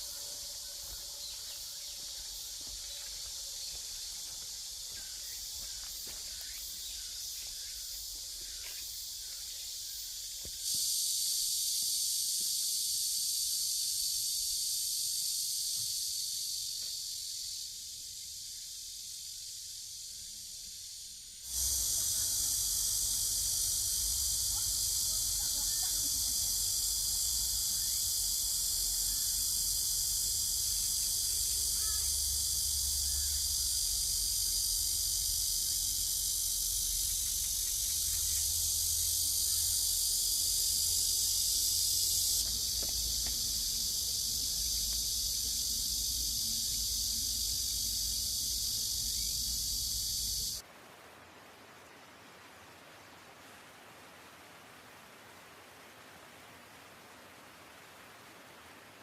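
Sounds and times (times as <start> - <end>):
high-pitched insect chorus: 0.0 - 50.6.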